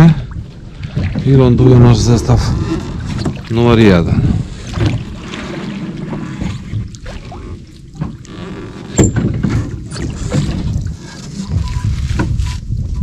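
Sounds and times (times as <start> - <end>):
knocks in a wooden rowboat: 0.8 - 1.9, 2.5 - 13.0.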